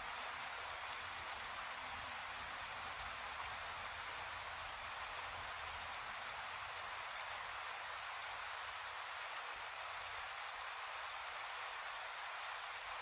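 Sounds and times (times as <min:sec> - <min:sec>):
water rushing over waterfall: 0:00.0 - 0:13.0.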